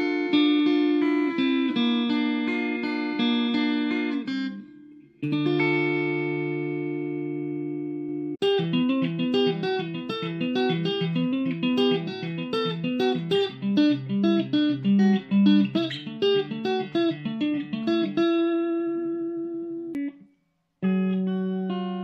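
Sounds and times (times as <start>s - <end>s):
electric guitar riff: 0.0s - 20.2s, 20.8s - 22.0s.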